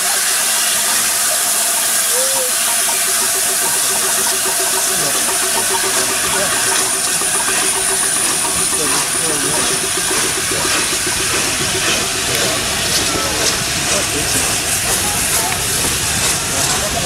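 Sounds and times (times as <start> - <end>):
steam hissing from locomotive: 0.0 - 17.0.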